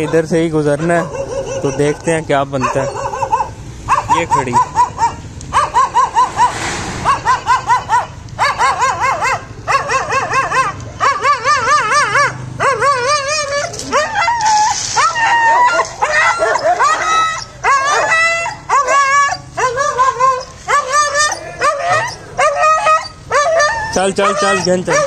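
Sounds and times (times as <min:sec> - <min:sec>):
dogs whining and howling: 0:00.0 - 0:25.0
dogs yelping: 0:00.0 - 0:25.0.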